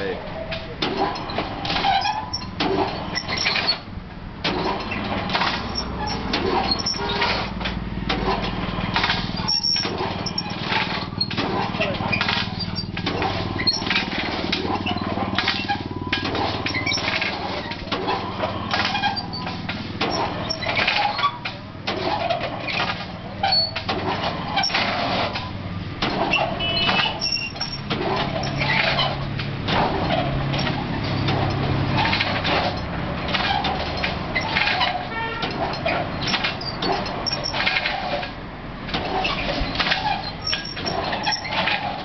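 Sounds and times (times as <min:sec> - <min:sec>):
metal clattering and clicking: 0:00.0 - 0:42.0.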